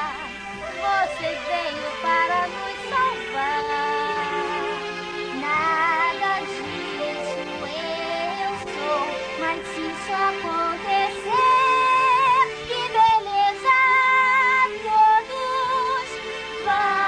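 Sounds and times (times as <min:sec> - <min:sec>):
instrumental backing music: 0:00.0 - 0:17.0
woman singing with vibrato: 0:00.0 - 0:17.0.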